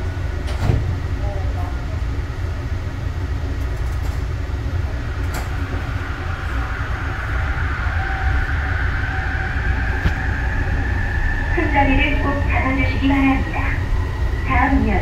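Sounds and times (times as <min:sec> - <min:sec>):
low rumble of train running gear: 0:00.0 - 0:15.0
train drive whine: 0:00.0 - 0:15.0.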